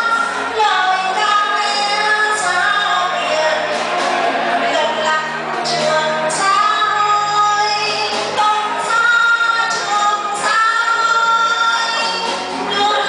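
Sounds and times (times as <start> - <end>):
musical accompaniment: 0.0 - 13.0
woman singing into microphone: 0.0 - 13.0.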